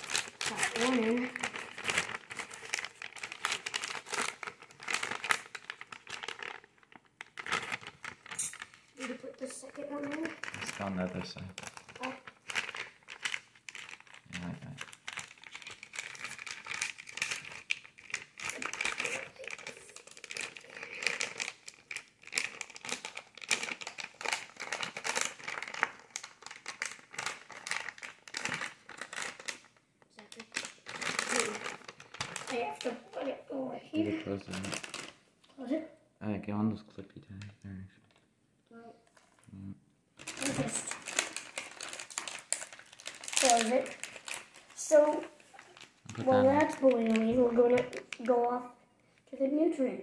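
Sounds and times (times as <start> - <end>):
plastic bag crinkling: 0.0 - 35.3, 39.0 - 39.5, 40.2 - 48.6.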